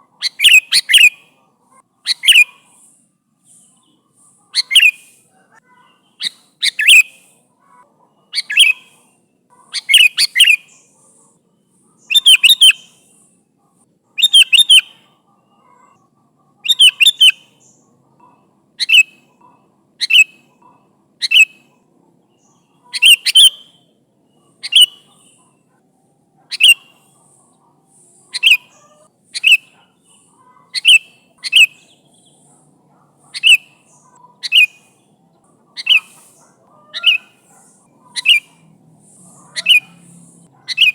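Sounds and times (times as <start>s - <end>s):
bird chirping calls: 0.0s - 13.4s, 14.1s - 40.9s.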